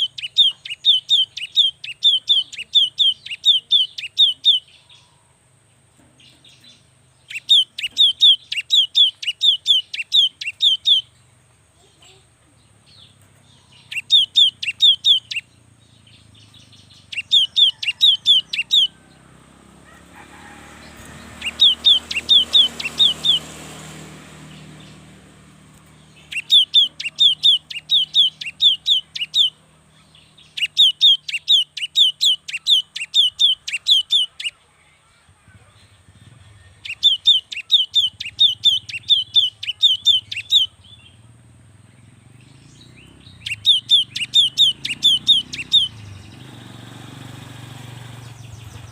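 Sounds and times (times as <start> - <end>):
bird singing: 0.0 - 48.9.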